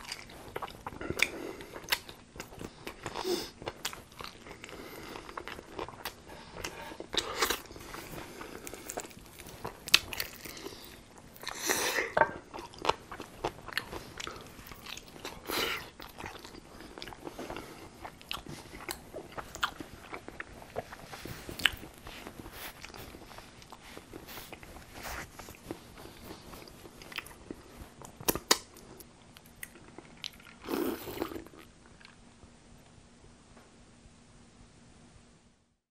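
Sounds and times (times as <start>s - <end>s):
chewing and crunching fried chicken: 0.0s - 32.3s.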